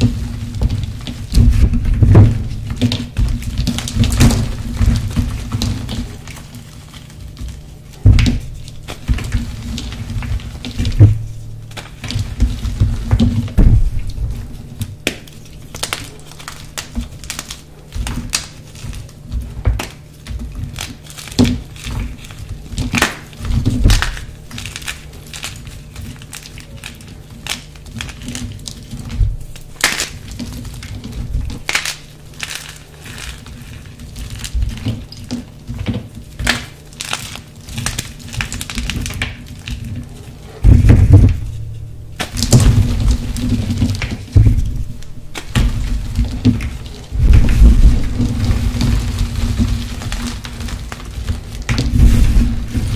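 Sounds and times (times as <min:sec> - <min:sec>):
hands crushing chalk: 0:00.0 - 0:52.9.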